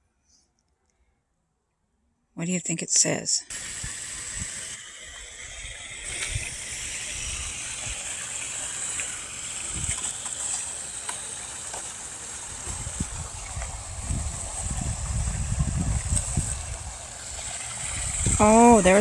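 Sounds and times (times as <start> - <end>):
running water rushing: 3.5 - 19.0.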